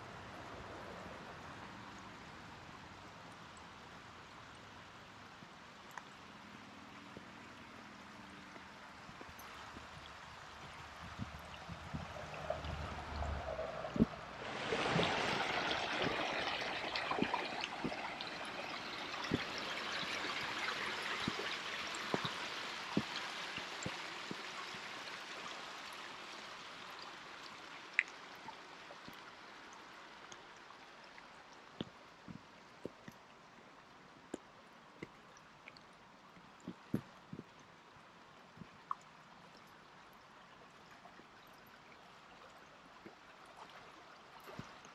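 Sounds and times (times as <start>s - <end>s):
brook running over rocks: 0.0s - 44.9s.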